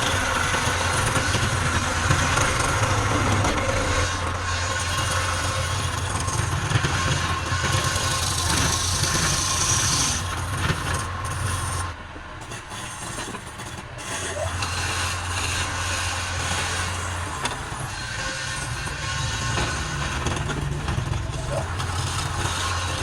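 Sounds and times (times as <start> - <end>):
woodturning lathe humming: 0.0 - 23.0.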